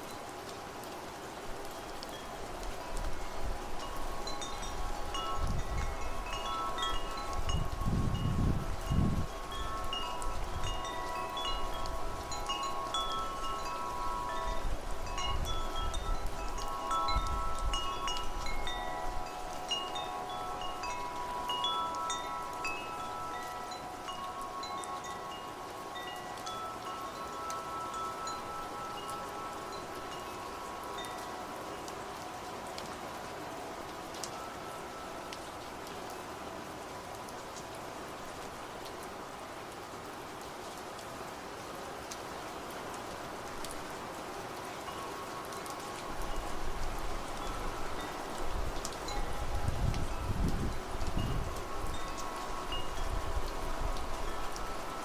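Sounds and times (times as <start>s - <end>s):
low rumbles of wind: 0.0s - 55.0s
wind chimes ringing: 1.3s - 35.8s, 44.4s - 55.0s.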